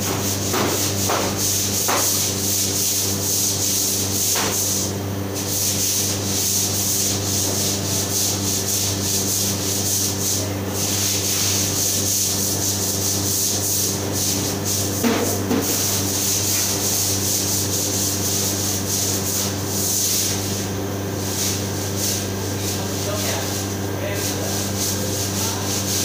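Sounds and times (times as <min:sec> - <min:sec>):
kitchen machinery hum: 0:00.0 - 0:26.0.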